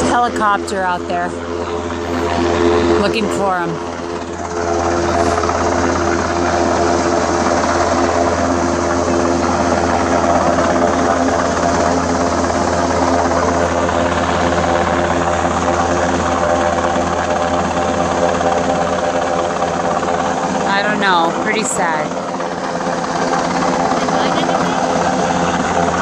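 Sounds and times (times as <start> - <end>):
helicopter rotor and engine: 0.0 - 26.0.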